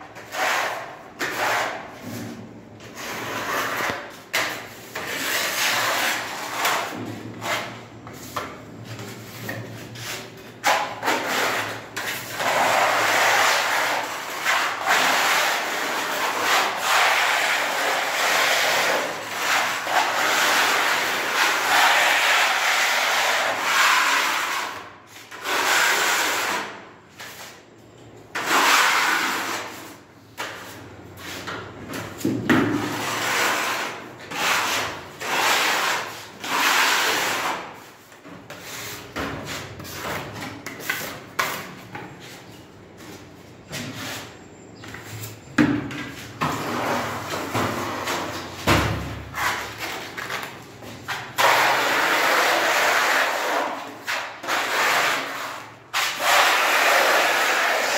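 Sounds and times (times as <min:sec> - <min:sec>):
putty knife scraping wall: 0:00.1 - 0:27.6, 0:28.3 - 0:42.5, 0:43.1 - 0:57.9.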